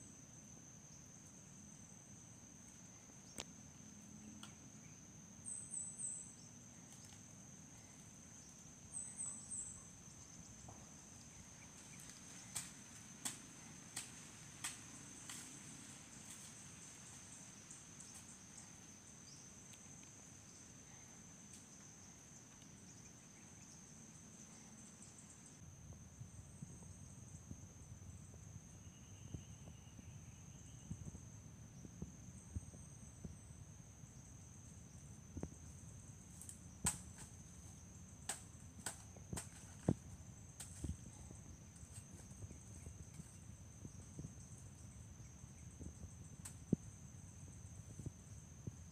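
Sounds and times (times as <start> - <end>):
insect trill: 0.0 - 48.9.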